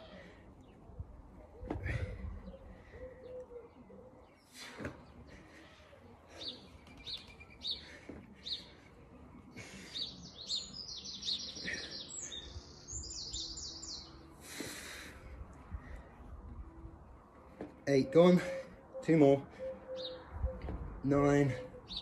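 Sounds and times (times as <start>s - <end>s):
small birds chirping: 0.0s - 14.8s, 15.9s - 22.0s.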